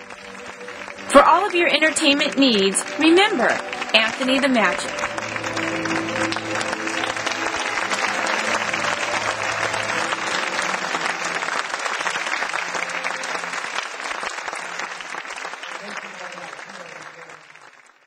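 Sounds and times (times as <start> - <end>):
background music chords: 0.0 - 14.6
audience applauding: 0.0 - 18.0.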